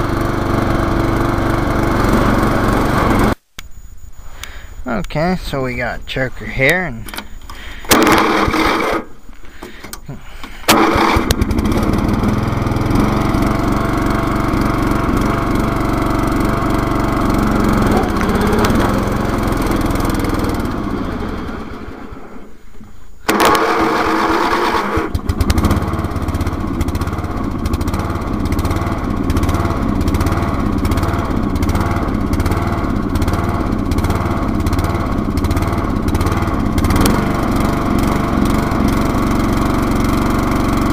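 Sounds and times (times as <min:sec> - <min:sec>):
riding lawn mower engine: 0:00.0 - 0:03.4, 0:04.9 - 0:40.9.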